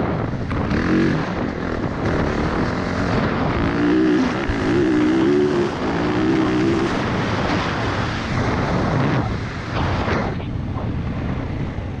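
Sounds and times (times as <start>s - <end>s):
dirt bike engine revving: 0.0s - 10.2s
wind noise on microphone: 0.0s - 12.0s.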